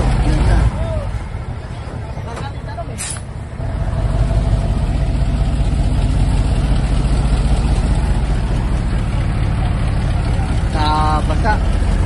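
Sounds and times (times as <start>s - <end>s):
truck diesel engine under load: 0.0s - 12.0s.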